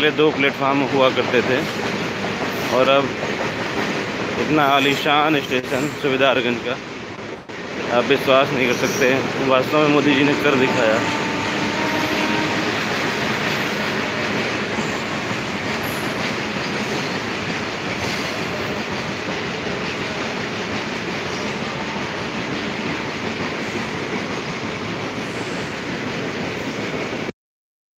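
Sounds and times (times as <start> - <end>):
train wheels on rails: 0.0 - 27.3.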